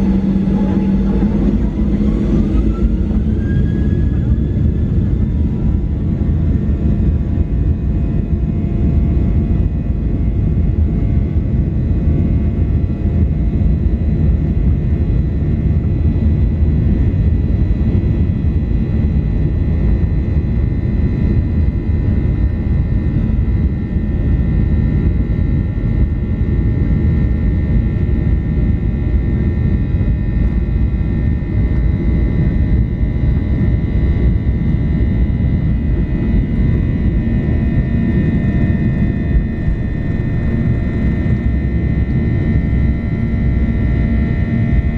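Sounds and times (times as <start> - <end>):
engine whine: 0.0 - 44.9
jet engine rumble: 0.0 - 44.9.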